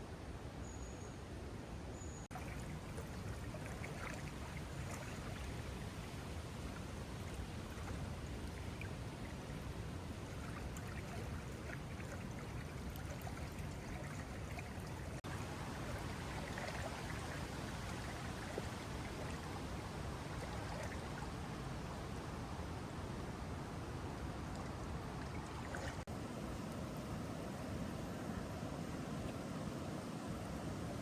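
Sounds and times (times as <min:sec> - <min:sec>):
river water flowing: 0:02.3 - 0:31.0.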